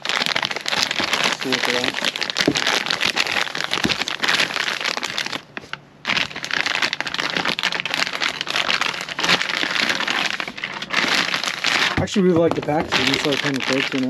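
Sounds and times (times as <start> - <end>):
plastic wrapping crinkling: 0.0 - 14.0.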